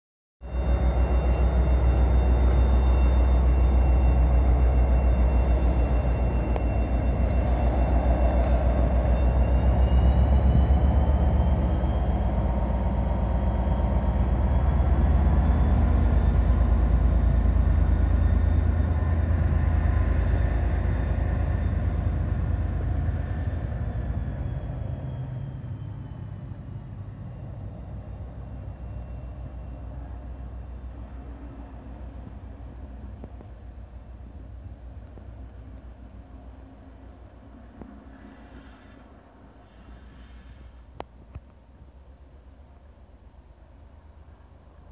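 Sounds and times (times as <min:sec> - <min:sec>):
diesel locomotive engine throbbing: 0:00.4 - 0:44.9.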